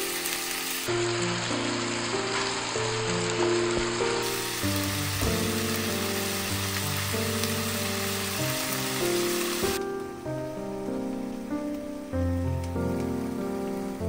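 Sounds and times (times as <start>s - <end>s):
food sizzling in a pan: 0.0s - 14.0s
gentle background music: 0.0s - 14.0s.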